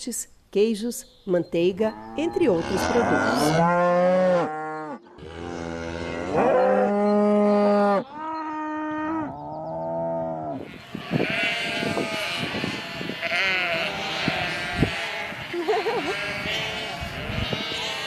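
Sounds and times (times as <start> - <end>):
cattle mooing: 2.1 - 18.0.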